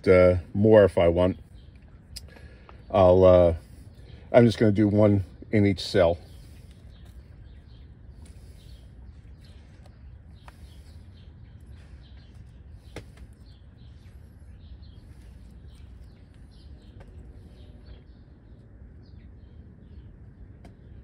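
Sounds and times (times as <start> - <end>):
low outdoor hush: 0.0 - 21.0.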